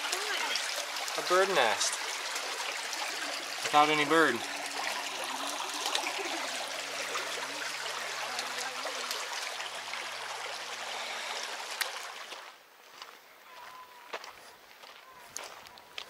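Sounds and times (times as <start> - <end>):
creek water running over rocks: 0.0 - 16.0.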